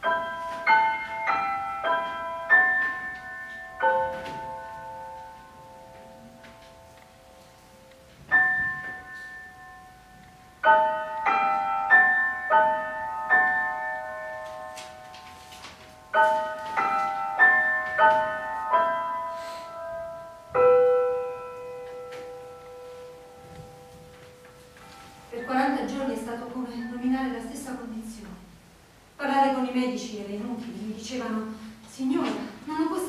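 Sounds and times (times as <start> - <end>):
slow piano music: 0.0 - 27.9.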